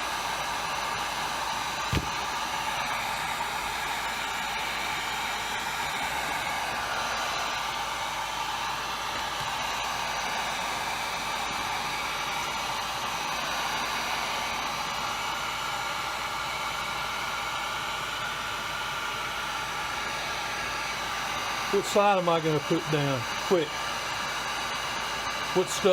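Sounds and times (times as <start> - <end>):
heat gun blowing: 0.0 - 25.9.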